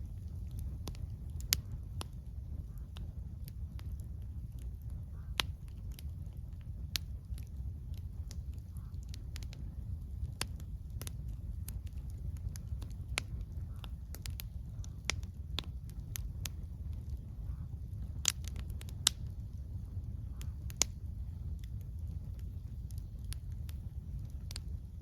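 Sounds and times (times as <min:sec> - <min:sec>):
campfire crackling and popping: 0:00.0 - 0:25.0
low rumble: 0:00.0 - 0:25.0.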